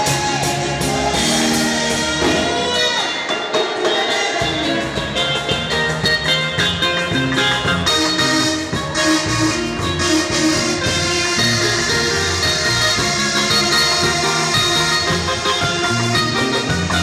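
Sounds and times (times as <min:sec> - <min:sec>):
live gospel band music: 0:00.0 - 0:17.0
steady drum beat: 0:00.0 - 0:17.0.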